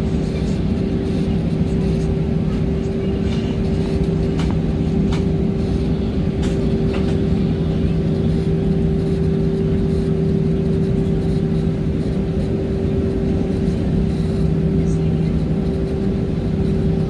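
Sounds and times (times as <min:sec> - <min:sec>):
airliner engine rush: 0:00.0 - 0:17.0
constant hum: 0:00.0 - 0:17.0.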